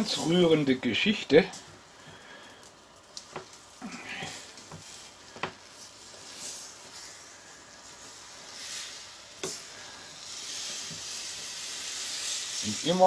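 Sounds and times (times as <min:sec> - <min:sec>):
bubbling jam hiss: 0:00.0 - 0:13.0.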